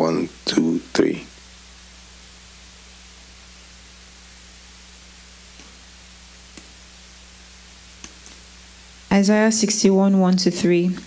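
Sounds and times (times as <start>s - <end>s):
background hiss: 0.0s - 11.0s
faint electrical hum: 0.0s - 11.0s.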